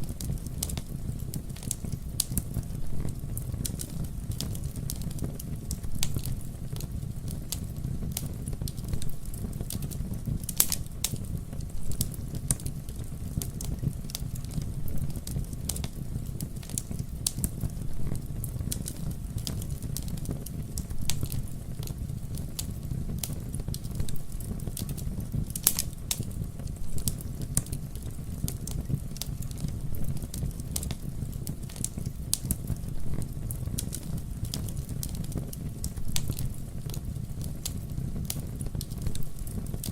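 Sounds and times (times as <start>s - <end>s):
burning wood crackling and popping: 0.0s - 39.9s
campfire flames rumbling: 0.0s - 39.9s.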